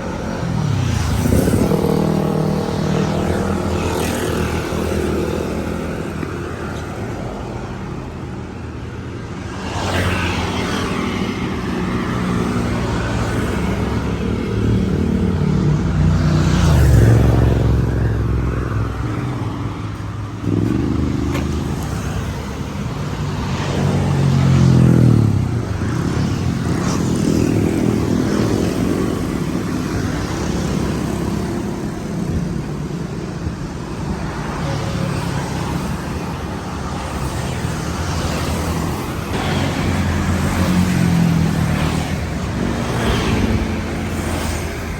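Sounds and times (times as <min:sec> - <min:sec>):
cars and motorbikes passing: 0:00.0 - 0:44.9.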